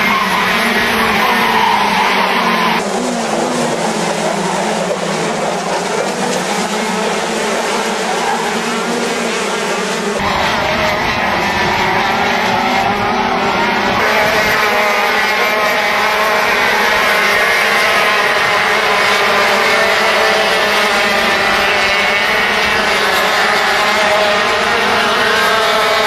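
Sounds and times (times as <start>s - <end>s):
racing kart engines buzzing: 0.0s - 26.0s.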